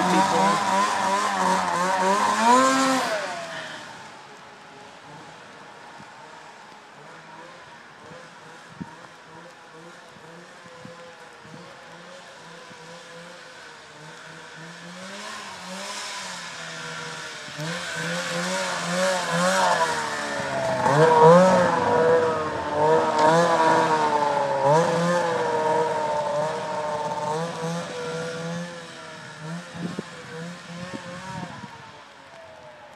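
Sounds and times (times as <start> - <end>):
snowmobile engine revving: 0.0 - 32.4.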